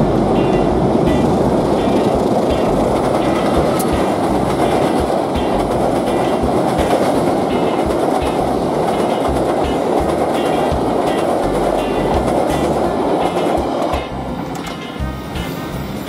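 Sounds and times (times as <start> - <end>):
rhythmic wheel clatter: 0.0 - 16.0
train rumble: 0.0 - 16.0.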